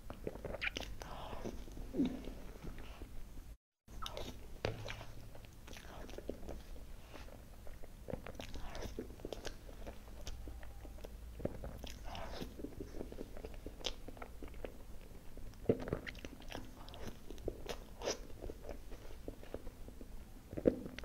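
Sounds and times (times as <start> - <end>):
chewing soft cake: 0.0 - 3.1, 4.0 - 21.0.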